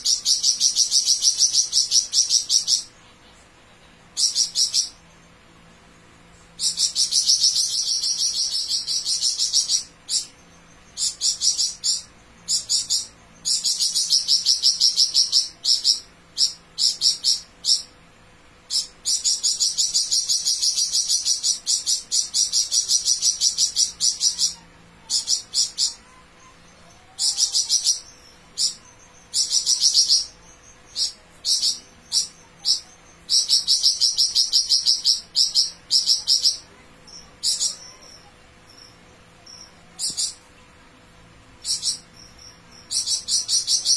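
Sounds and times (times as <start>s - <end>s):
songbird buzzing trills: 0.0s - 43.9s.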